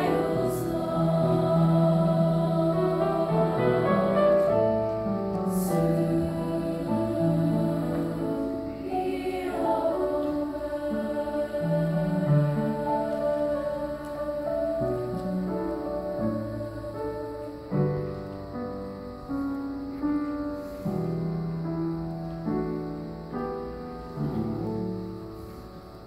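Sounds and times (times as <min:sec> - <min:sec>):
piano playing slow chords: 0:00.0 - 0:26.0.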